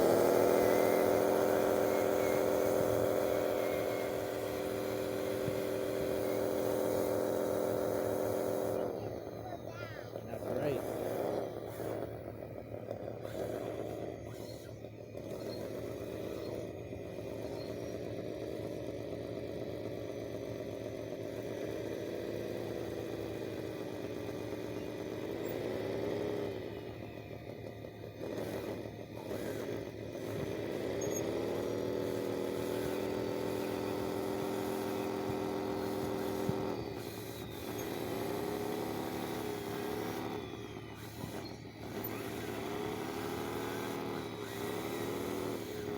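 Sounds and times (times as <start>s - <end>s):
electric motor whine: 0.0s - 45.9s.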